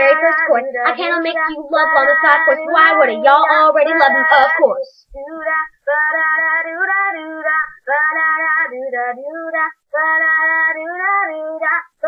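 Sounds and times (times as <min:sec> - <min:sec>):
young voice singing: 0:00.0 - 0:12.0.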